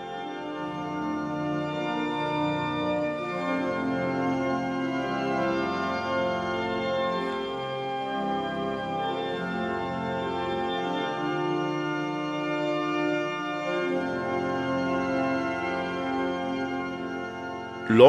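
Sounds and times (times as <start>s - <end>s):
organ playing slow chords: 0.0s - 18.0s.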